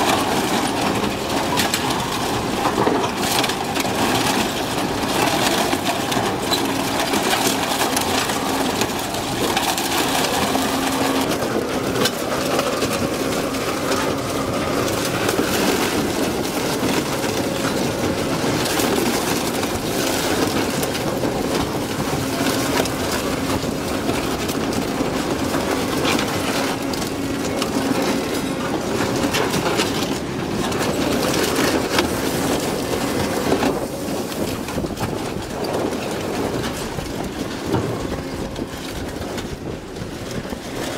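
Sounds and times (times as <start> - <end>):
machine hum: 0.0 - 40.9
shredder crushing metal: 0.0 - 40.9.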